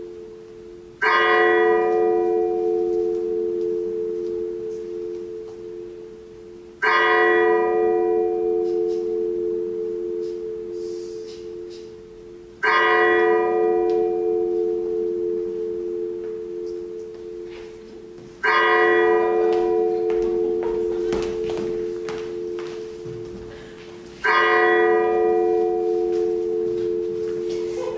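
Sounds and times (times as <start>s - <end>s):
bell tolling: 0.0s - 27.9s.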